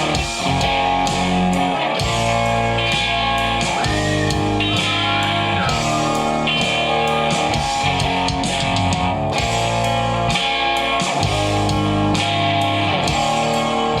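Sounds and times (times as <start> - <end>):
drum kit: 0.0 - 14.0
rock song with strummed guitars: 0.0 - 14.0.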